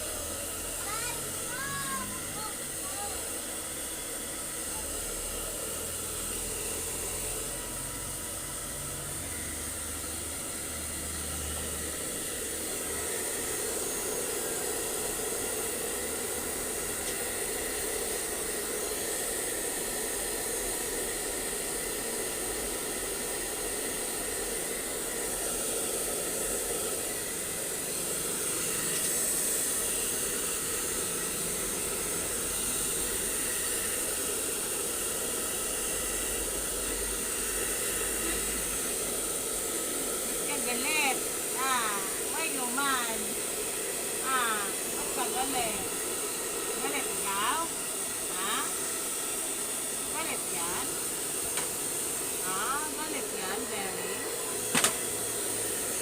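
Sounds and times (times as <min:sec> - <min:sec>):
blow dryer running: 0:00.0 - 0:56.0.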